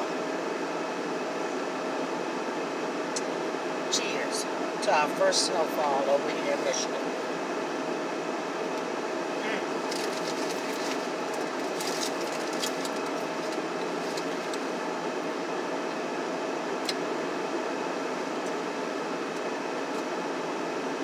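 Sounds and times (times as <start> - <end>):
car heater fan blowing: 0.0 - 21.0.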